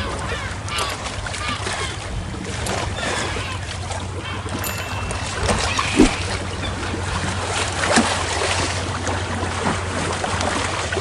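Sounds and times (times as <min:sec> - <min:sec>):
running water: 0:00.0 - 0:10.4.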